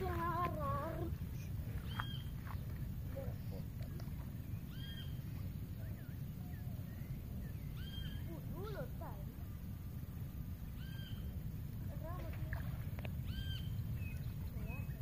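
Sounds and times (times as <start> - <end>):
bird calling: 0.0 - 12.2, 13.0 - 15.0.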